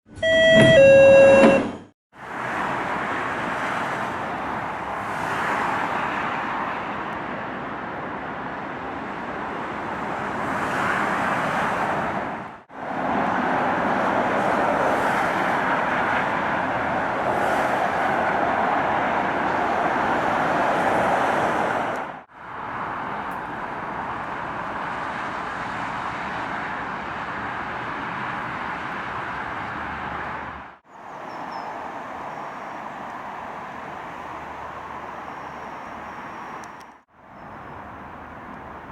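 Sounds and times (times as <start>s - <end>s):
passenger trains passing at speed: 2.2s - 38.9s.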